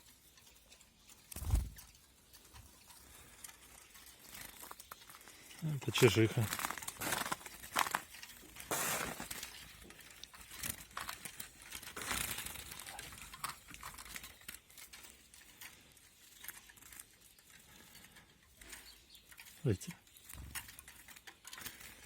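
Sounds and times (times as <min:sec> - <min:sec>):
hands handling a bird: 0:00.6 - 0:22.0.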